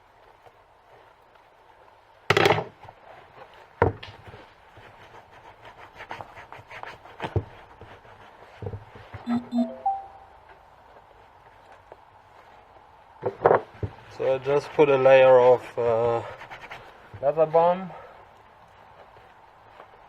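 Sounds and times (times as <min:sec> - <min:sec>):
scrape or rustle: 0:02.7 - 0:09.3, 0:09.9 - 0:20.0.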